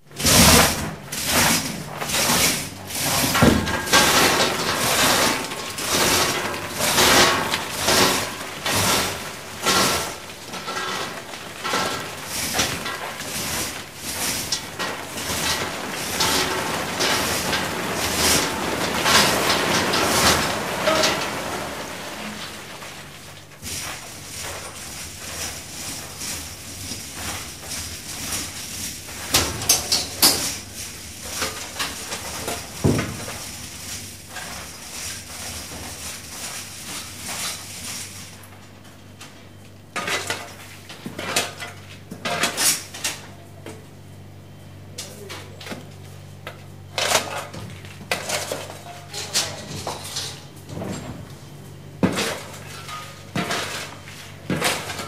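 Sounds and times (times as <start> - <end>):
low machinery hum: 0.0 - 55.0
coal knocking and clattering: 0.1 - 38.4, 45.3 - 55.0.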